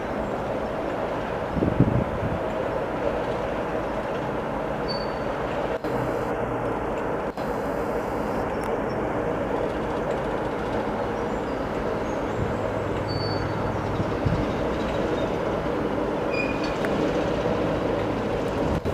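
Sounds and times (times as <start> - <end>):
low engine tone: 0.0 - 18.9
train rumbling through station: 0.0 - 18.9.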